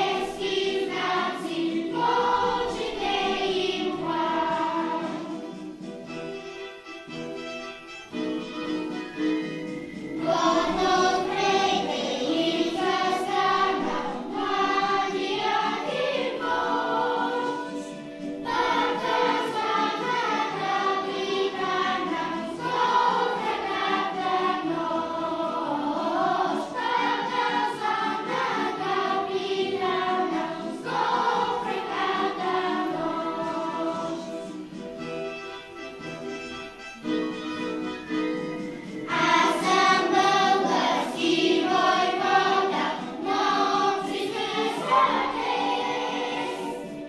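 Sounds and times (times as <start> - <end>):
children's choir singing: 0.0 - 7.2, 8.1 - 47.0
instrumental accompaniment: 0.0 - 47.0.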